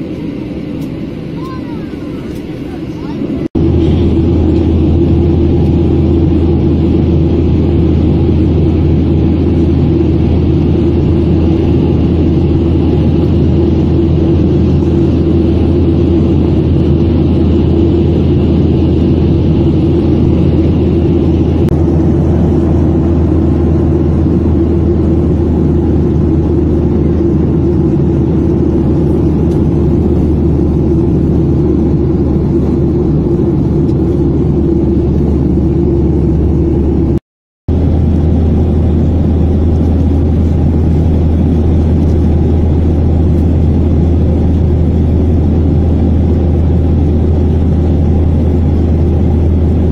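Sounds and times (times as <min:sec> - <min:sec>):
jet airliner cabin drone: 0:00.0 - 0:49.9.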